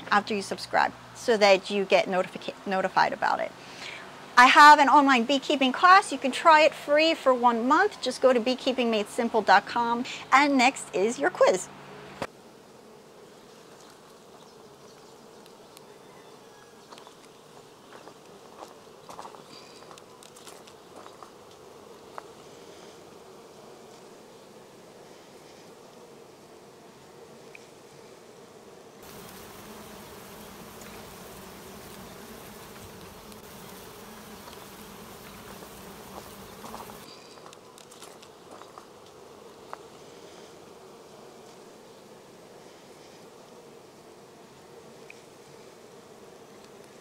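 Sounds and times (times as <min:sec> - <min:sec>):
honey bees buzzing: 0:00.0 - 0:47.0.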